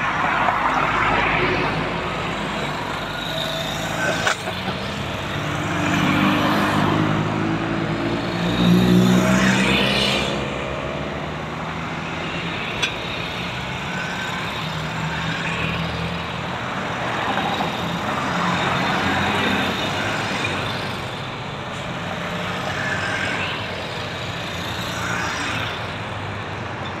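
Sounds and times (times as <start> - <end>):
traffic passing: 0.0 - 27.0.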